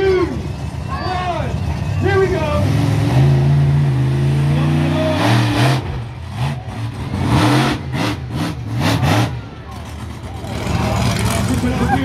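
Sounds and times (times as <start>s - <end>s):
monster truck engine revving: 1.6s - 12.0s.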